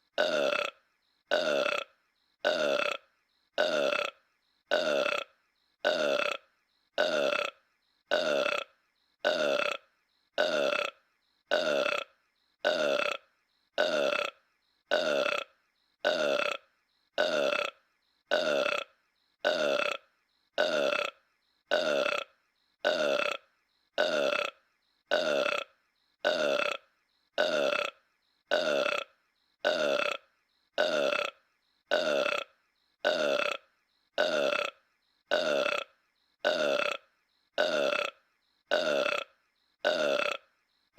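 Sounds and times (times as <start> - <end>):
cartoon burp: 0.1 - 40.5.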